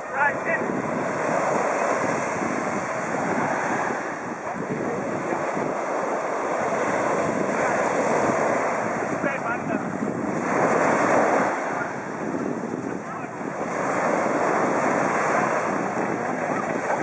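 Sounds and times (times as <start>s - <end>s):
sea water rushing: 0.0s - 17.0s
wind buffeting microphone: 0.0s - 17.0s.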